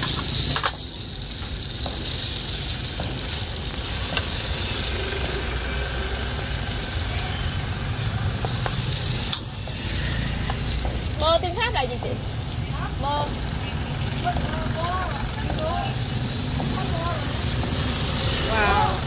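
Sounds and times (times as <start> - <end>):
fritters sizzling in hot oil: 0.0 - 19.0.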